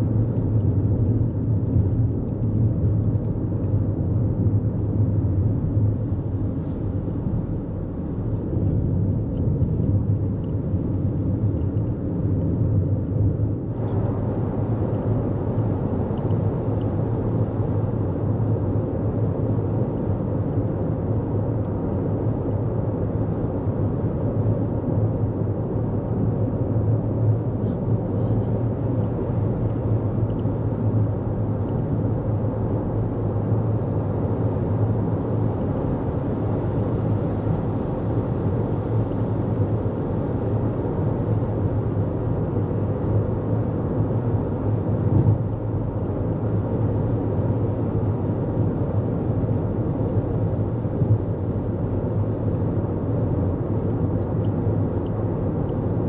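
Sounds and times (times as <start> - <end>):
car tyre and engine drone: 0.0 - 56.0.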